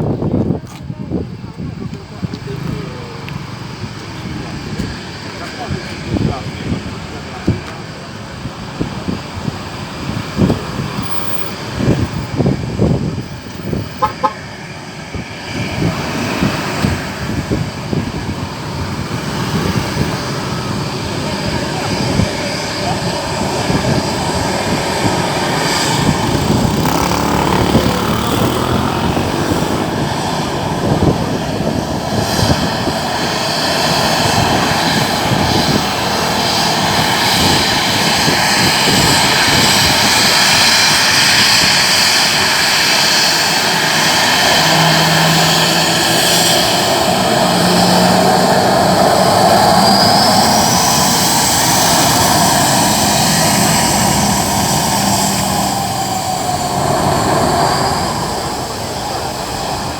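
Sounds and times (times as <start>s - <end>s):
jet engines running with whine: 0.0s - 59.9s.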